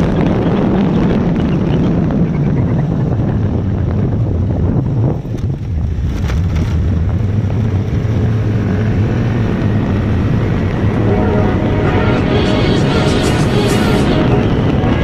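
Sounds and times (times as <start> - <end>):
vehicle rumble on road: 0.0 - 15.0
wind buffeting microphone: 0.0 - 15.0.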